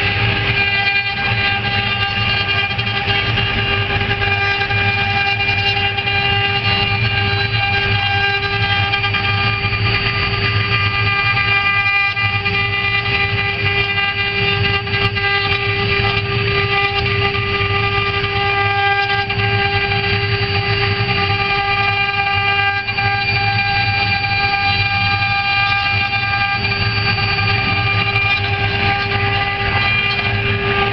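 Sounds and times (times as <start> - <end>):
cnc router spindles whining: 0.0 - 30.9
low hum: 0.0 - 30.9.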